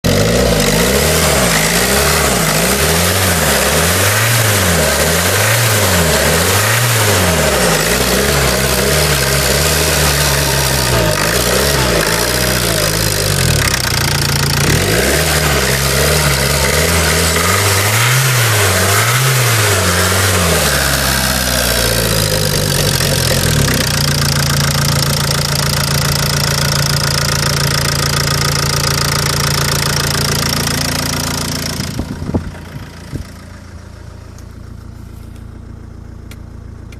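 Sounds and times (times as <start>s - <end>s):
diesel engine revving and idling: 0.0s - 36.9s.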